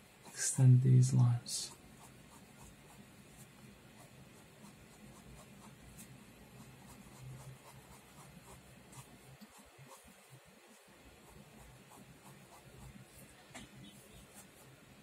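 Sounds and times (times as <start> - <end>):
faint low hum: 0.0 - 15.0
pen scratching on paper: 1.7 - 14.8.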